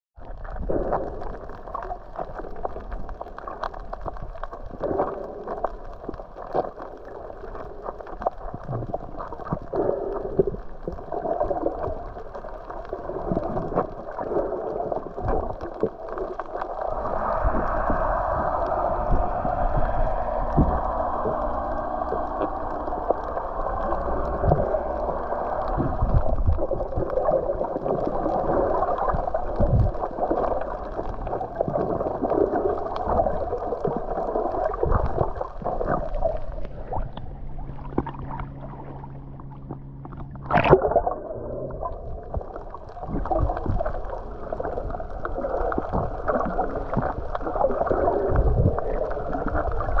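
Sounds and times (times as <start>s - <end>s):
muffled underwater sloshing: 0.2s - 50.0s.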